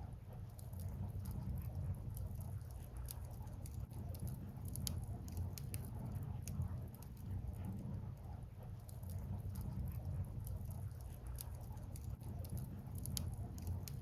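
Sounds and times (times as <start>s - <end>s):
fire low rumble: 0.0s - 14.0s
wood fire crackling: 0.3s - 14.0s.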